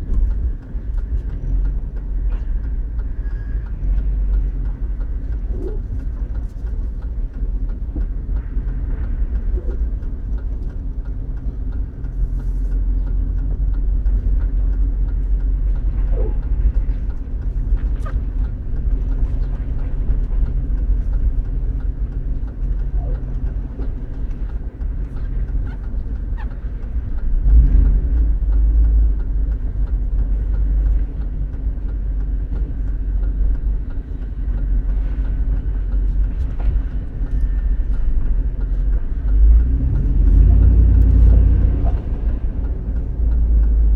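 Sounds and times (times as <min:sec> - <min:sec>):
car interior rumble: 0:00.0 - 0:43.9
sharp ticks: 0:00.1 - 0:43.9.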